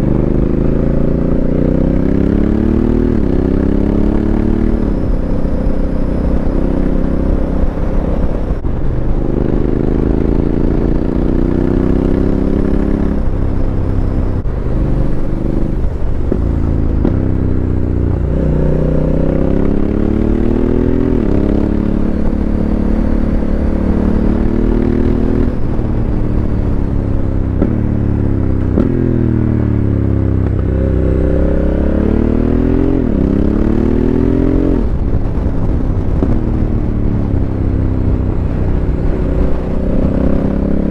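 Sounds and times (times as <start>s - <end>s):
motorcycle engine revving: 0.0s - 40.9s
wind noise on microphone: 0.0s - 40.9s.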